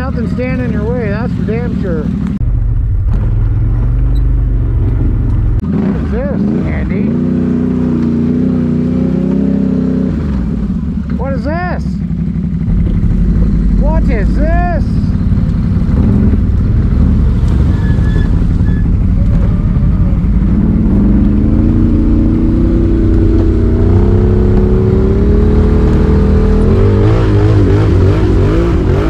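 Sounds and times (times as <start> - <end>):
engine revving while riding: 0.0 - 29.0.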